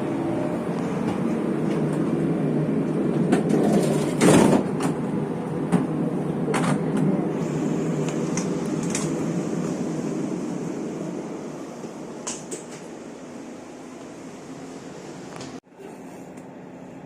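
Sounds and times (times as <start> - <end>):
rush of noise: 0.0 - 15.6
train carriage rumble: 0.0 - 17.0.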